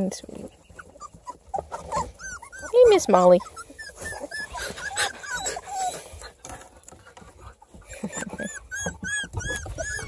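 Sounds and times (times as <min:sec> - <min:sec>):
puppies whining and squealing: 0:00.0 - 0:10.0.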